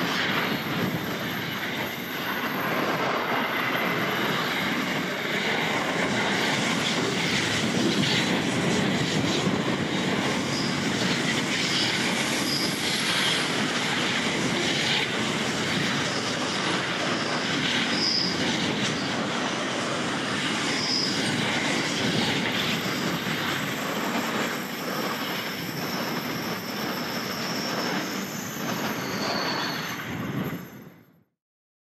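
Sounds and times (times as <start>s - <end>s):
freight train wheels clattering on rail: 0.0s - 30.8s
high wheel squeals: 0.0s - 31.1s.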